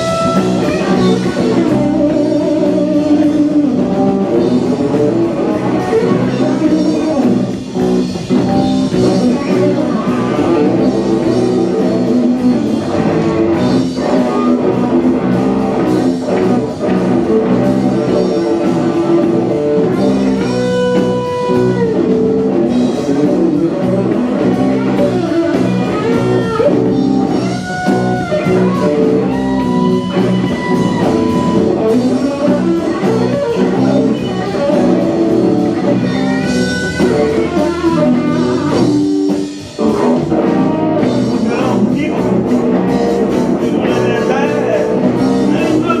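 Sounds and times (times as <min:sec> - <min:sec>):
bending lead guitar notes: 0:00.0 - 0:46.0
live band playing blues rock: 0:00.0 - 0:46.0.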